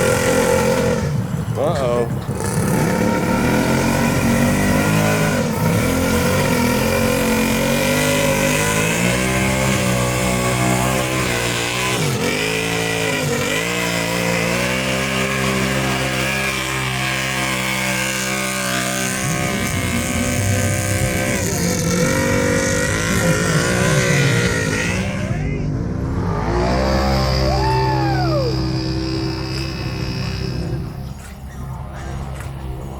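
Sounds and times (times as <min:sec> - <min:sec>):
utility vehicle engine revving: 0:00.0 - 0:32.9.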